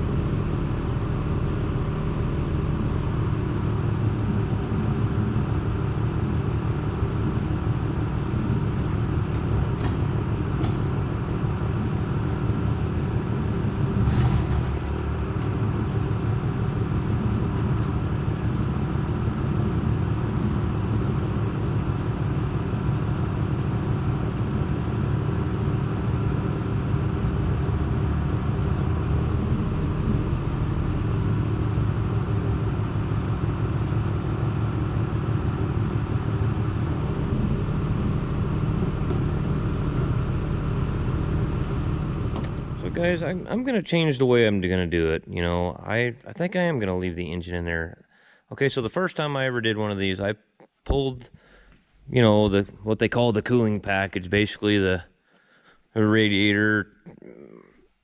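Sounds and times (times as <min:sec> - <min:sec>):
machine rumble and hum: 0:00.0 - 0:55.0.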